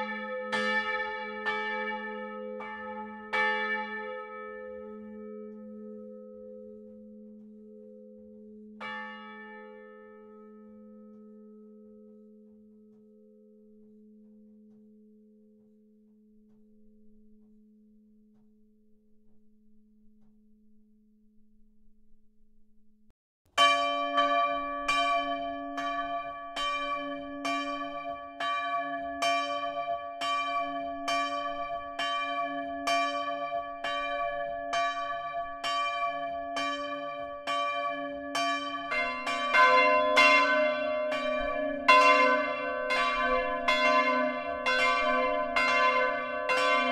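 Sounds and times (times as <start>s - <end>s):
church bell striking: 0.0s - 15.0s, 23.6s - 46.9s.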